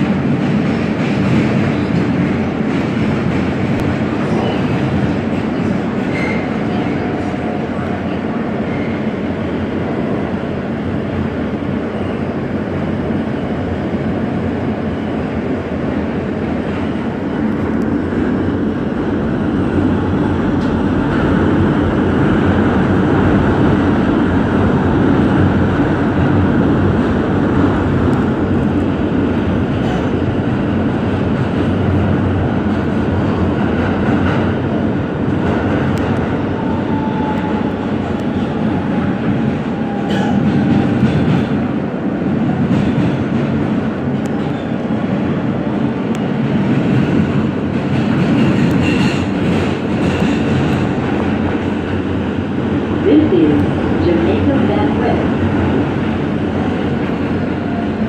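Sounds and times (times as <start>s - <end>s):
subway car wheels rumbling: 0.0s - 58.0s.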